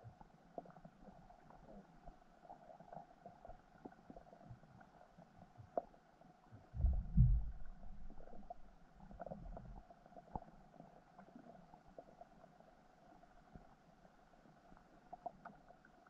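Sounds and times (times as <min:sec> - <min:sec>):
faint underwater ticks: 0:00.0 - 0:16.0
muffled underwater rumble: 0:00.0 - 0:16.0.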